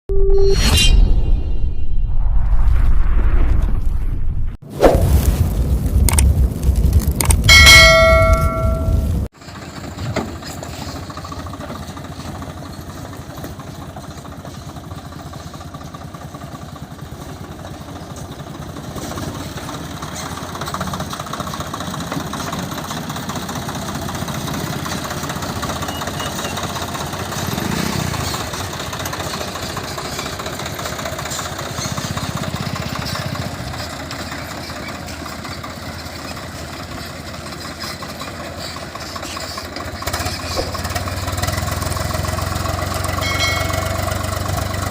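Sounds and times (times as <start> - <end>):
tractor diesel engine idling: 7.8 - 44.9.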